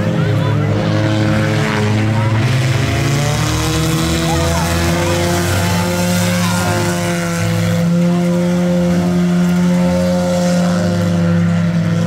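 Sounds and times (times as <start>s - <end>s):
race car engines revving high: 0.0s - 12.0s.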